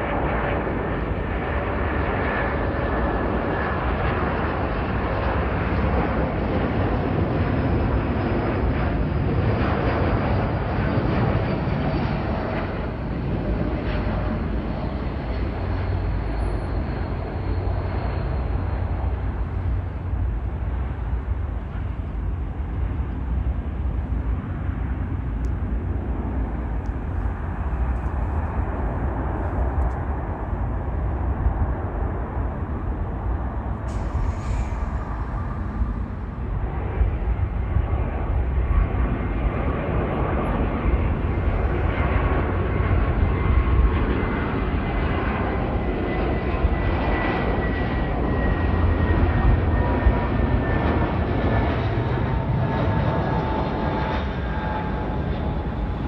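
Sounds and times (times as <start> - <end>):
airliner engine noise: 0.0 - 56.0.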